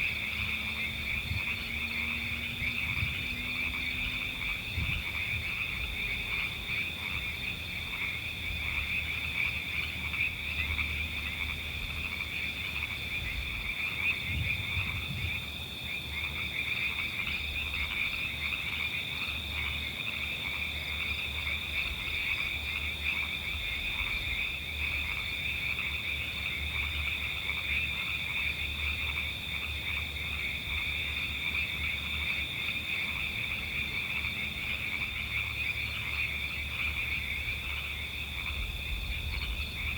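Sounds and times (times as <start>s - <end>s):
frogs trilling: 0.0s - 39.9s
low frog croaks: 0.0s - 39.9s.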